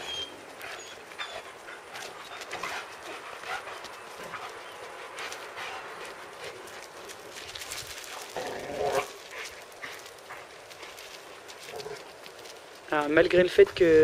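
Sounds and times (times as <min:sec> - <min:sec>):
paws scraping on gravel: 0:00.0 - 0:14.0.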